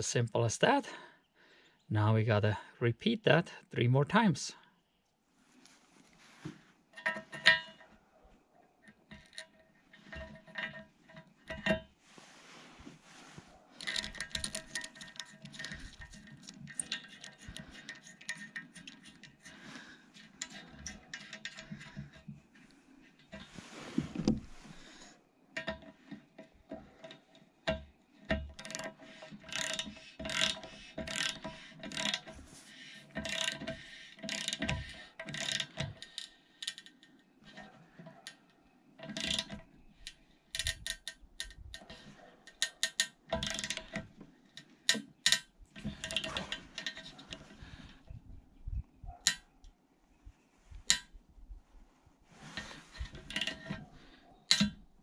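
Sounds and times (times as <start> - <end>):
metallic clicks and scrapes: 5.6 - 8.0, 8.8 - 49.7, 50.6 - 51.2, 52.3 - 55.0.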